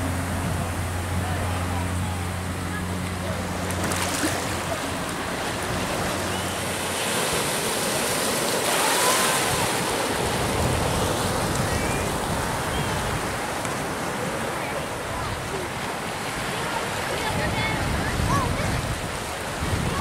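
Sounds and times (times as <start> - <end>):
small waves breaking: 0.0 - 20.0.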